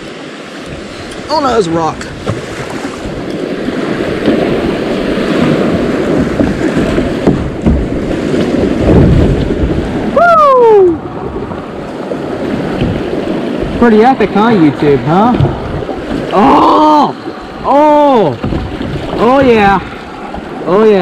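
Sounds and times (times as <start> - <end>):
rushing whitewater: 0.0 - 21.0
wind buffeting microphone: 0.0 - 21.0.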